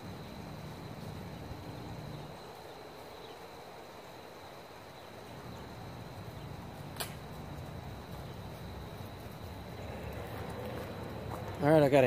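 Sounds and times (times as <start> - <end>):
faint low background noise: 0.0 - 12.0
insect high-pitched drone: 0.0 - 12.0.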